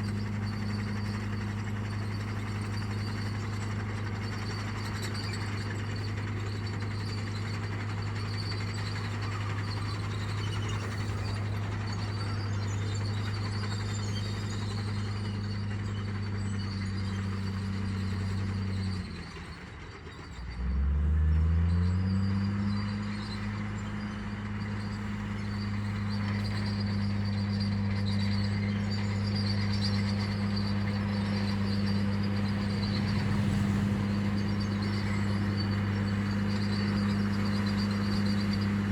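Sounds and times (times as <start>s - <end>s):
construction machine engine running: 0.0s - 38.9s.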